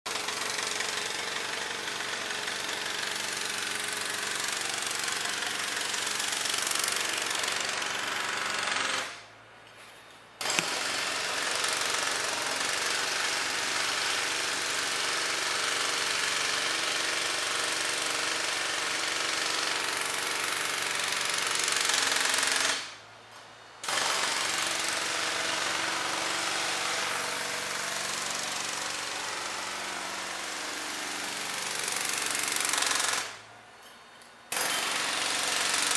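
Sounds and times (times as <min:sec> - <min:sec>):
jackhammer hammering: 0:00.1 - 0:09.2, 0:10.4 - 0:23.0, 0:23.8 - 0:33.5, 0:34.5 - 0:35.9.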